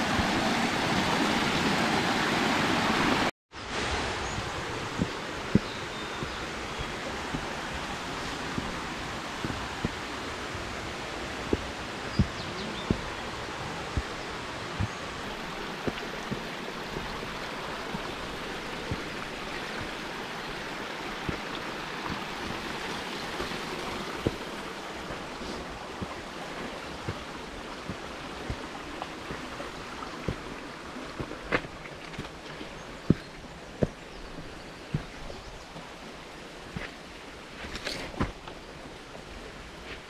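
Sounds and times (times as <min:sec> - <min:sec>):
stream rushing: 0:00.0 - 0:40.0
footsteps on stony trail: 0:05.0 - 0:40.0.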